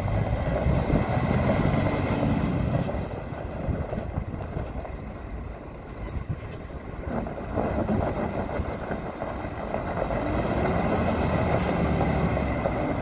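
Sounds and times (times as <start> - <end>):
diesel truck pulling away: 0.0 - 13.0.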